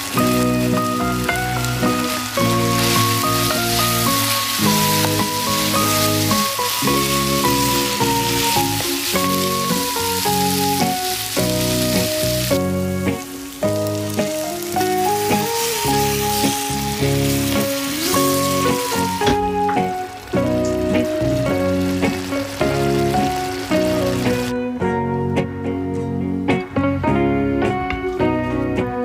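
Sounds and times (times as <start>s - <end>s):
meat and onion sizzling in pan: 0.0s - 24.5s
background music with melody: 0.0s - 29.0s.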